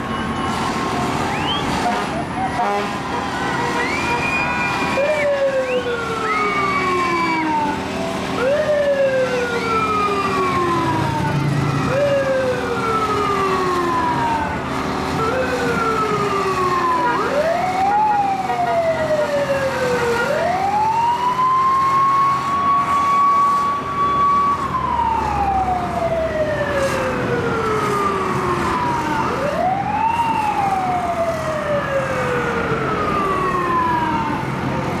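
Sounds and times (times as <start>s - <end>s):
fire truck siren: 0.0s - 35.0s.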